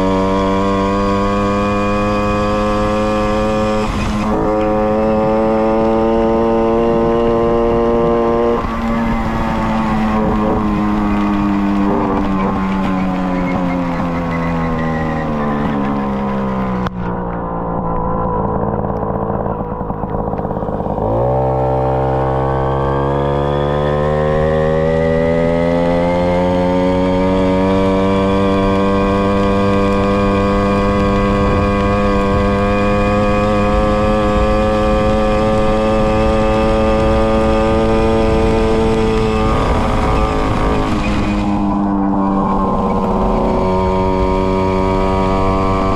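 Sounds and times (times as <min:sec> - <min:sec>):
two-stroke moped engine accelerating: 0:00.0 - 0:45.9.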